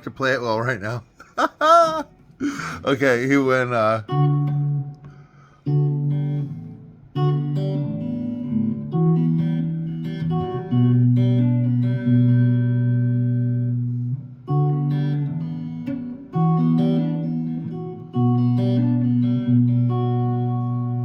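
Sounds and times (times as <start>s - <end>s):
guitar picking a riff: 1.7s - 21.0s.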